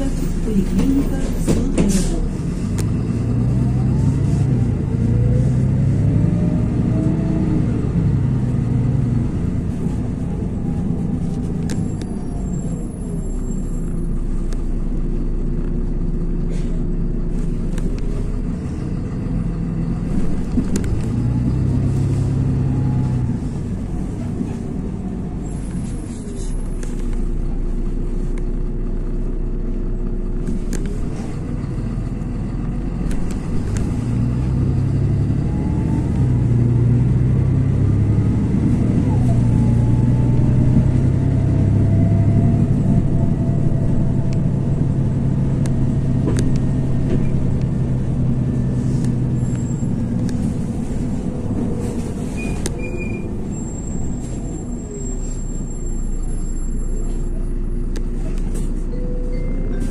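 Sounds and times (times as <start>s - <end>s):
bus engine droning: 0.0s - 59.9s
drivetrain whine: 0.0s - 59.9s.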